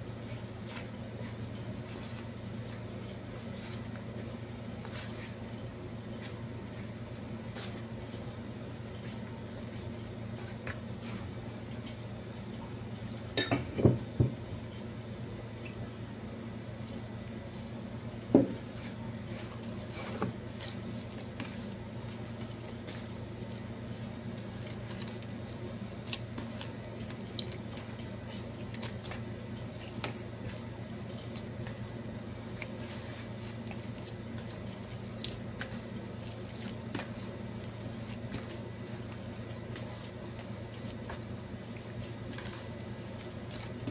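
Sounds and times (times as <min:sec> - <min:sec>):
dough squishing: 0:00.0 - 0:12.0, 0:16.2 - 0:43.9
steady low hum: 0:00.0 - 0:43.9.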